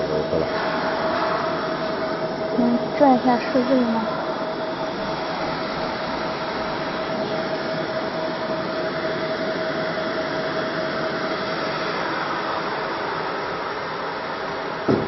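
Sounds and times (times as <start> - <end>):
mid-pitched machine hum: 0.0 - 15.0.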